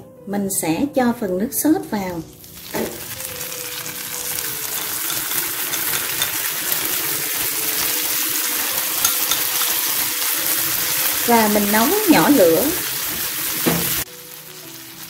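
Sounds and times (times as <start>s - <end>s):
frying hiss in hot pan: 2.1s - 15.0s.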